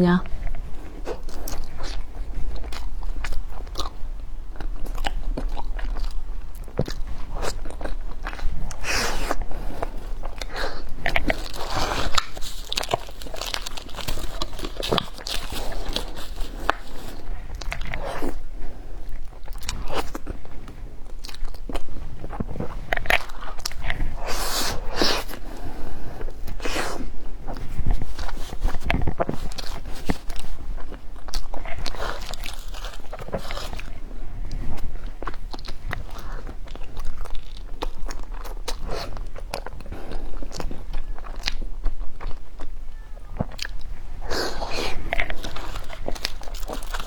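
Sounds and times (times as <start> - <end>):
crunching and chewing crisp food: 0.0 - 47.0.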